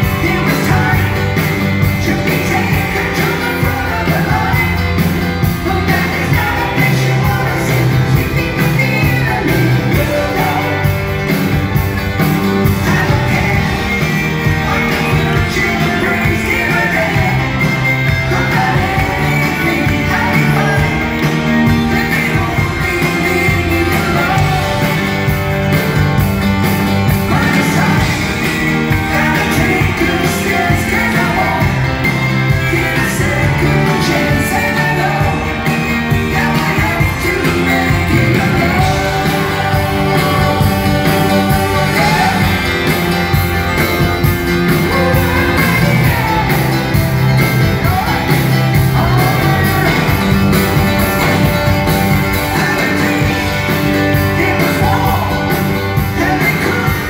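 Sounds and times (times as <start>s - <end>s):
electric guitar: 0.0s - 57.0s
lead singer singing: 0.0s - 57.0s
live rock band playing: 0.0s - 57.0s.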